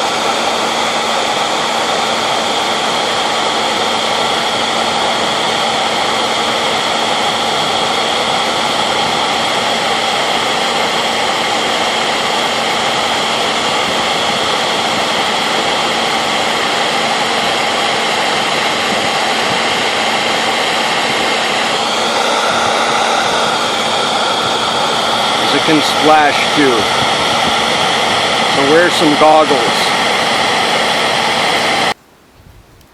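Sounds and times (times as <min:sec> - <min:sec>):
hairdryer blowing: 0:00.0 - 0:32.0.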